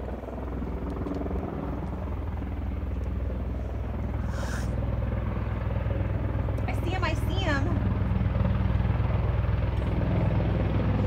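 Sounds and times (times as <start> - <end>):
propeller aircraft droning: 0.0 - 11.0.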